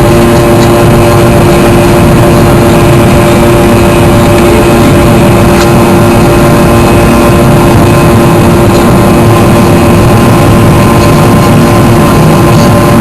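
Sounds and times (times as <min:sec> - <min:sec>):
jet engine and air rush in cabin: 0:00.0 - 0:13.0
steady engine whine: 0:00.0 - 0:13.0.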